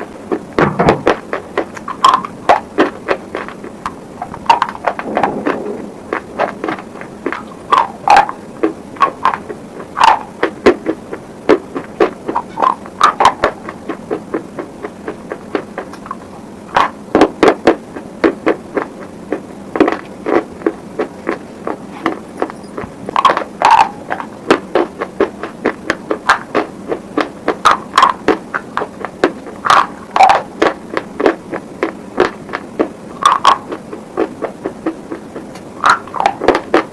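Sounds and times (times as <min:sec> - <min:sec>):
crunchy chewing close up: 0:00.0 - 0:36.9.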